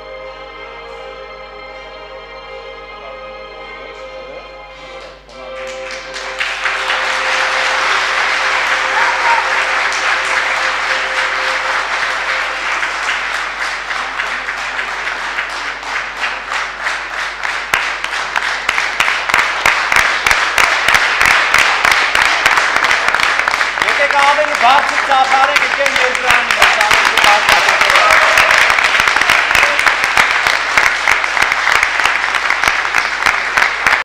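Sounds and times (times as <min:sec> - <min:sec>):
audience applauding: 0:05.0 - 0:34.0.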